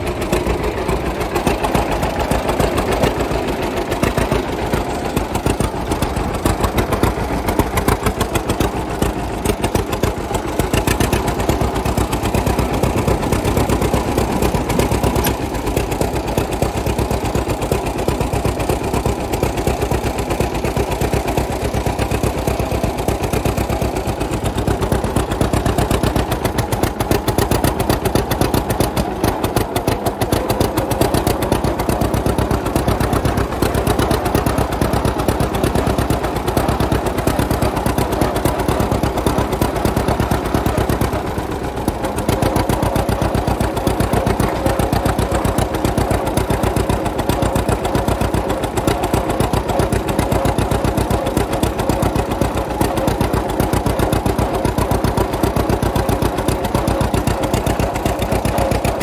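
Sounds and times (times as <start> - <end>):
tractor engine popping exhaust: 0.0 - 59.0.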